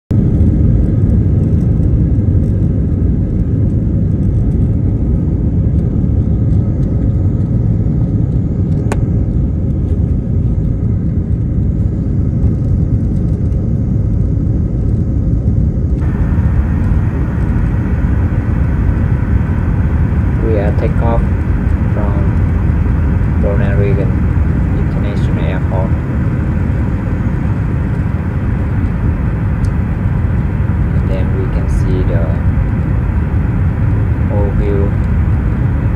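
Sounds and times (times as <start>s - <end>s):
airliner engine and wheel rumble: 0.1s - 35.9s.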